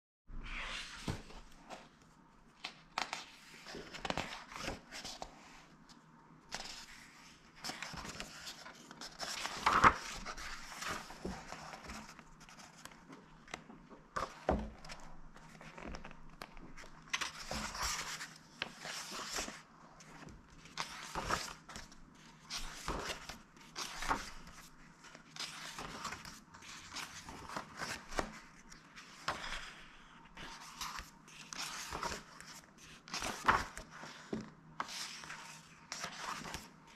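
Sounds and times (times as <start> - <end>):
book pages turning: 0.4 - 36.9.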